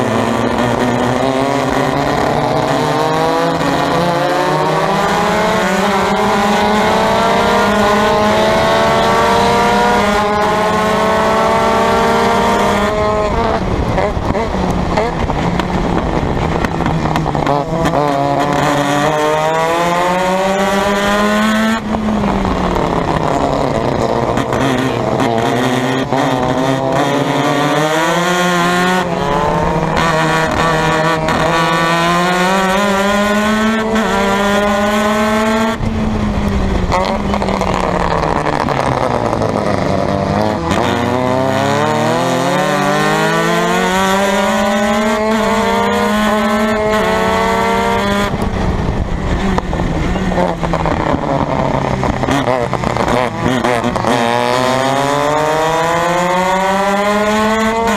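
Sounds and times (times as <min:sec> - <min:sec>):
race car engine: 0:00.0 - 0:57.9.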